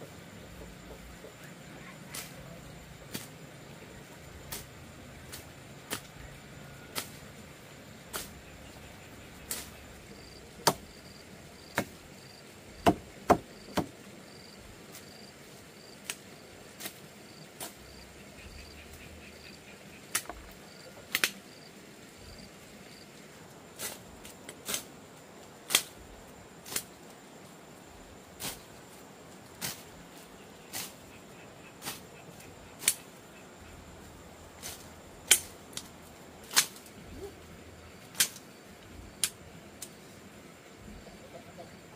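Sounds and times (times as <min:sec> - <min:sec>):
cricket chirping: 0:00.0 - 0:41.9.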